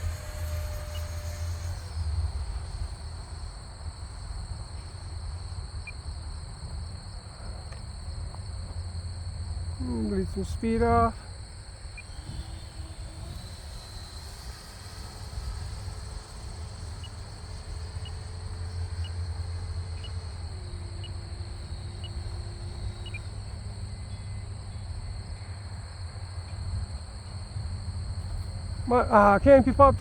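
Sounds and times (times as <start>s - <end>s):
electric ducted fan whine: 0.0s - 30.0s
wind rumbling on microphone: 0.0s - 30.0s.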